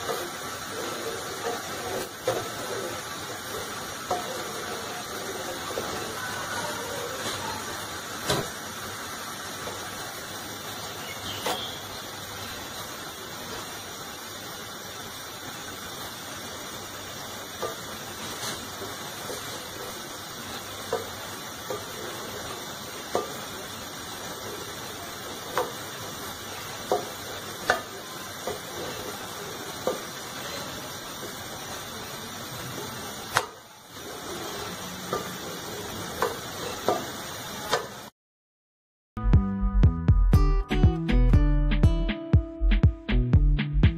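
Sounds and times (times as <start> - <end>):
steady hiss: 0.0 - 38.1.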